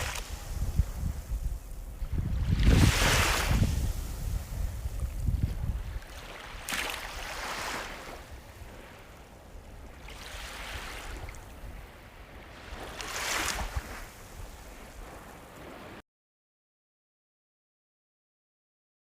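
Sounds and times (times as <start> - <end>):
waves washing up the shore: 0.0 - 16.0.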